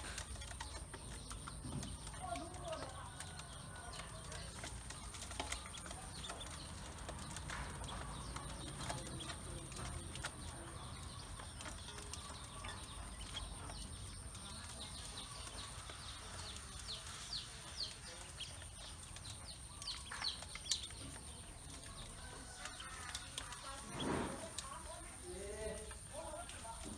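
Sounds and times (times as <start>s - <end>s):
bills clicking on metal: 0.0s - 26.9s
ducklings peeping: 0.0s - 26.9s.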